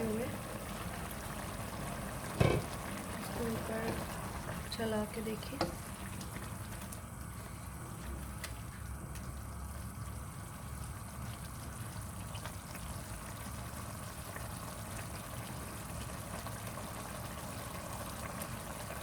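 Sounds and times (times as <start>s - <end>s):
curry bubbling in a pan: 0.0s - 19.0s.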